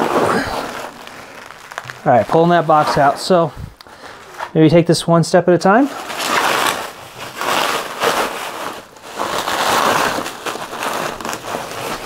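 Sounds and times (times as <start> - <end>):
bubble wrap crinkling: 0.0 - 4.6, 5.7 - 12.0.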